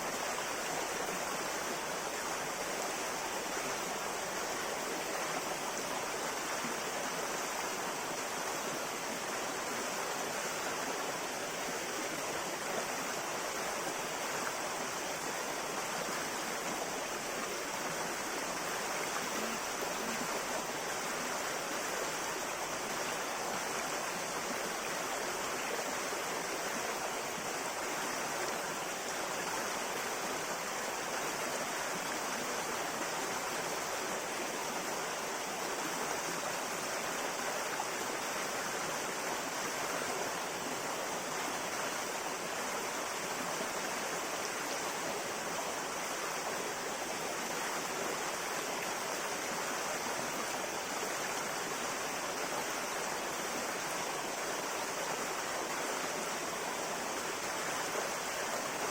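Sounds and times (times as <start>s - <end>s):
river water flowing over rocks: 0.0s - 58.9s.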